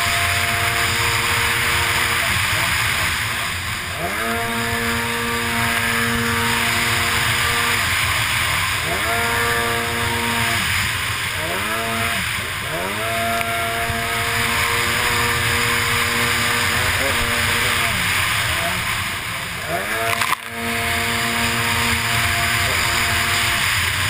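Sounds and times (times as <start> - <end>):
jet ski engine revving: 0.0 - 24.0
water spray: 0.0 - 24.0.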